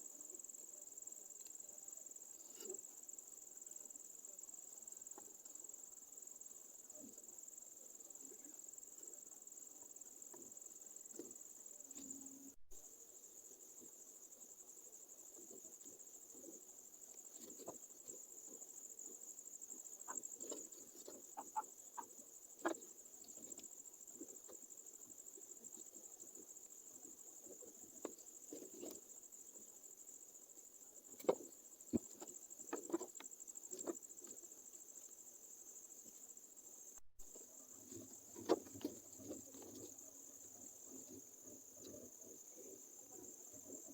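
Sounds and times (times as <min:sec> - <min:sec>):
crickets chirping: 0:00.0 - 0:43.9.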